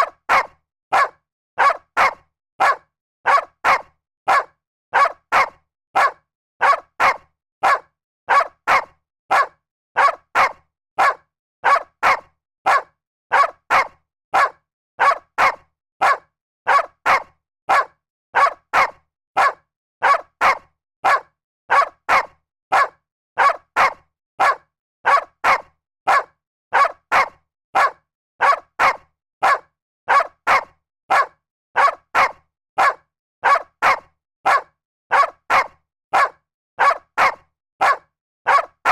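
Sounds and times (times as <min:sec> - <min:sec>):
dog barking: 0:00.0 - 0:38.9.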